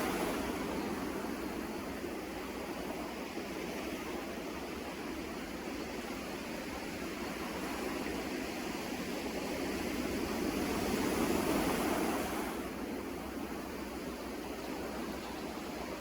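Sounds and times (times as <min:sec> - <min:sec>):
sea waves breaking on shore: 0:00.0 - 0:16.0.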